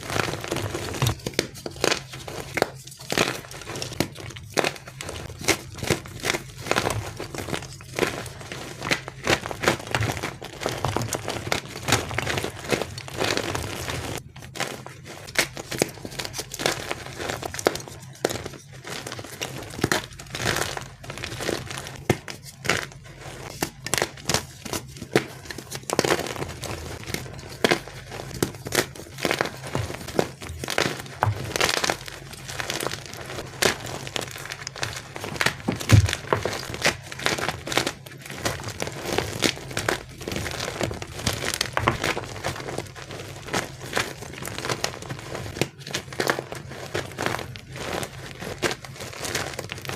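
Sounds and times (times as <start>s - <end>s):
chalk being crushed: 0.0s - 49.9s.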